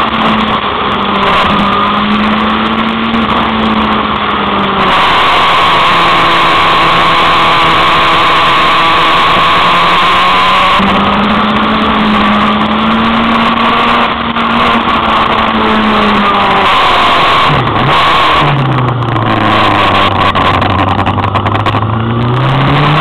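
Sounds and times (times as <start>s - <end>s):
motorcycle engine running hard: 0.0s - 23.0s
wind rush on microphone: 0.0s - 23.0s.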